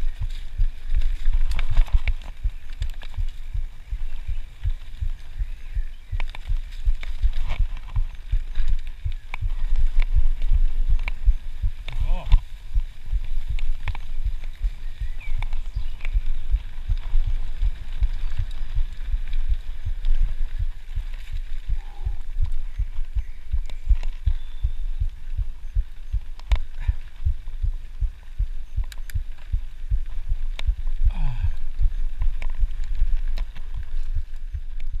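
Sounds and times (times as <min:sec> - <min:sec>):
bike clicks and rattles: 0:00.0 - 0:35.0
mountain bike thumping rumble: 0:00.0 - 0:35.0.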